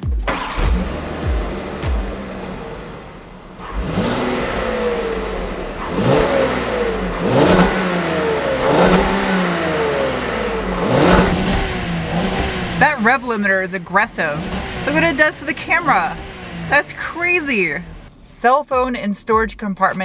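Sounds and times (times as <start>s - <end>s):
car engine starting and revving: 0.0s - 18.5s.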